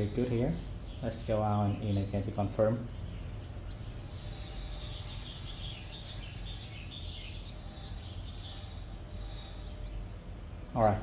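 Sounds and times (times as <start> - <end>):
birds chirping: 0.0 - 11.0
low background hum: 0.0 - 11.0.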